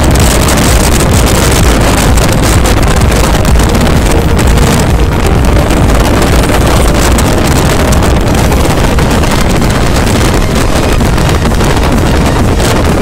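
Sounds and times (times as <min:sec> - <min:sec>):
motorcycle engine droning: 0:00.0 - 0:13.0
wind buffeting microphone: 0:00.0 - 0:13.0.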